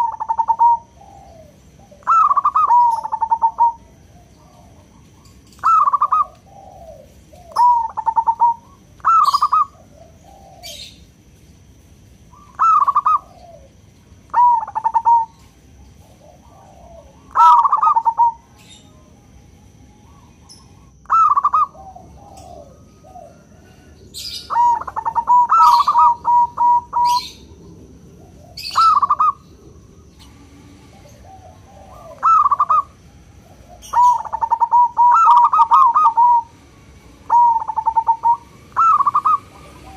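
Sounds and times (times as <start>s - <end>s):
dove cooing: 0.0s - 11.1s, 12.3s - 19.0s, 20.0s - 39.9s.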